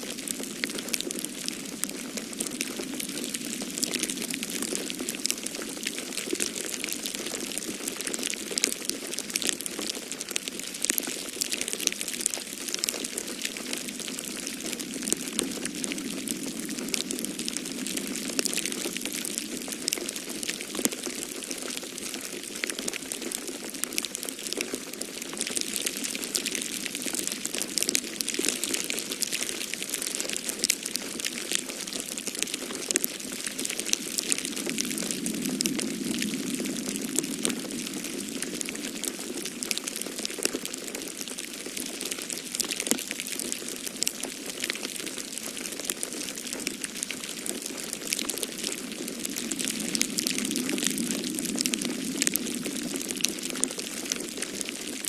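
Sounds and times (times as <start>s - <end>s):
low wind of snowstorm: 0.0s - 55.0s
wood fire crackling: 0.0s - 55.0s.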